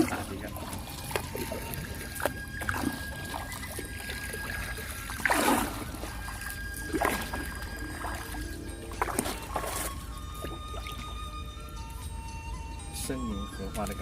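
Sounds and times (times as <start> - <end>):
oar strokes splashing in water: 0.0 - 11.3.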